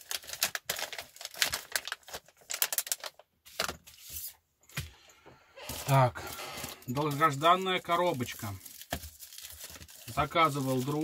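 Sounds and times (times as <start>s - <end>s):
paper packaging rustling: 0.0s - 4.4s, 5.6s - 11.0s.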